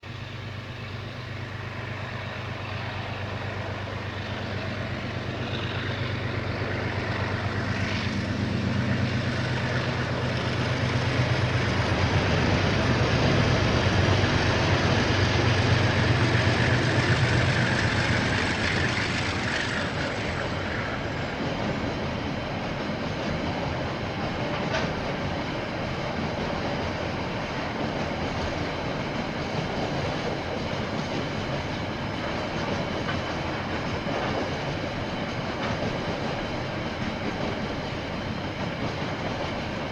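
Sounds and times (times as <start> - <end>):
diesel locomotive engine passing: 0.0 - 39.9
train wagons clattering: 1.4 - 39.9.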